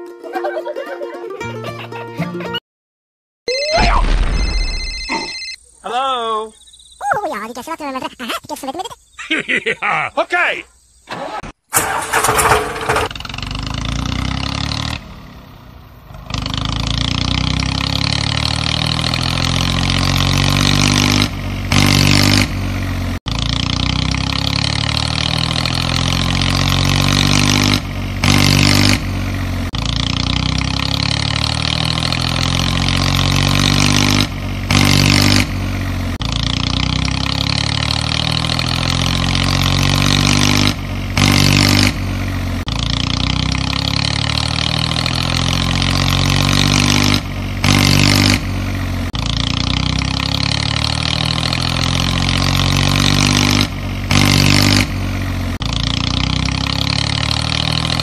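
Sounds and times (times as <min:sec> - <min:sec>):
tractor engine revving: 0:09.3 - 0:58.0.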